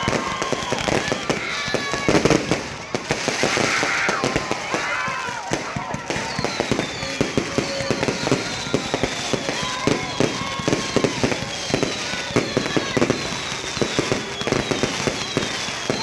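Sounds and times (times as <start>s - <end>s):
firework bangs and crackles: 0.0s - 16.0s
whistling firework shells: 0.0s - 16.0s.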